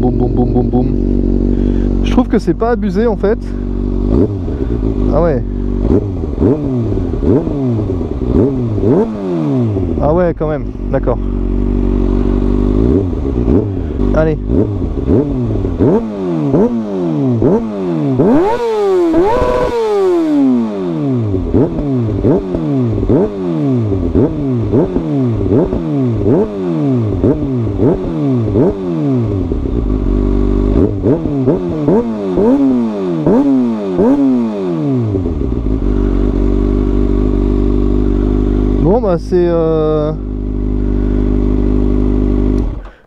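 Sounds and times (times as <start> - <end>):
motorcycle engine idling: 0.0 - 43.0
motorcycle engine revving: 0.0 - 43.0.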